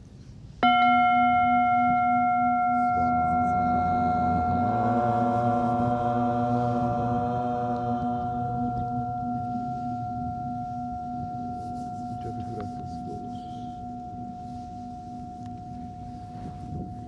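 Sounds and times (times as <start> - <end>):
singing bowl ringing: 0.6 - 17.0.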